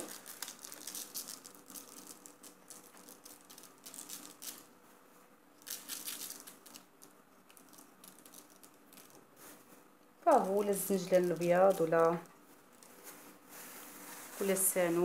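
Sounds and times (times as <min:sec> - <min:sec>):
seeds sprinkled rustling and pattering: 0:00.0 - 0:04.7, 0:05.6 - 0:15.0
faint steady hum: 0:00.0 - 0:15.0.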